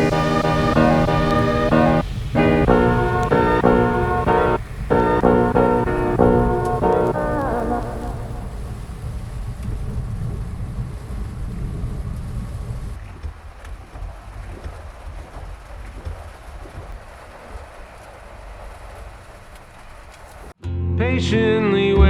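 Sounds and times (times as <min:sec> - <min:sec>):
steady rain hiss: 0:00.0 - 0:20.6.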